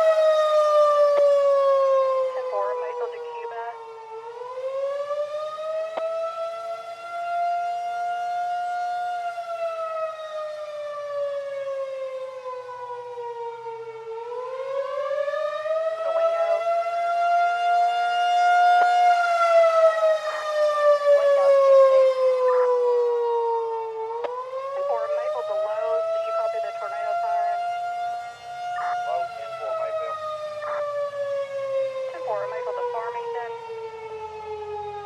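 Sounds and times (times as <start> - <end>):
warning siren rising and falling: 0.0 - 35.0.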